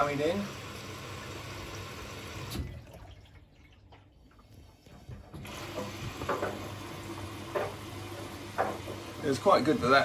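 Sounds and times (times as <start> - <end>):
washing machine filling with water: 0.0 - 10.0.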